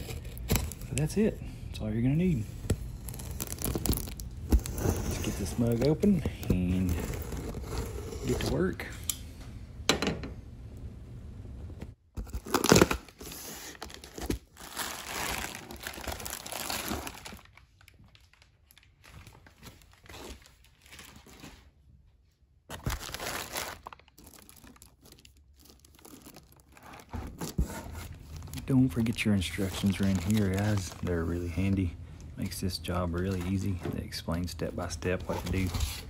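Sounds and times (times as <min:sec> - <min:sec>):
bubble wrap and plastic crinkling: 0:00.0 - 0:01.4, 0:02.2 - 0:08.7, 0:12.2 - 0:21.8, 0:22.7 - 0:33.8, 0:34.8 - 0:36.0.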